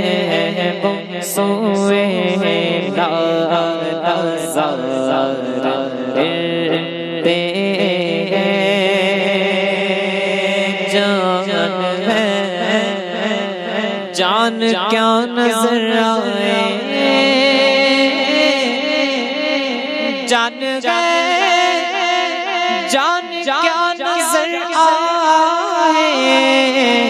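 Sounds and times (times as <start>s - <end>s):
man singing: 0.0s - 27.0s.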